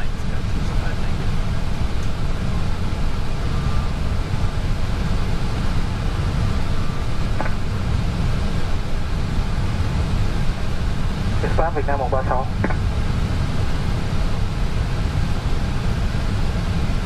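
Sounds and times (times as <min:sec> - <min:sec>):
aircraft cockpit rumble and hiss: 0:00.0 - 0:17.0.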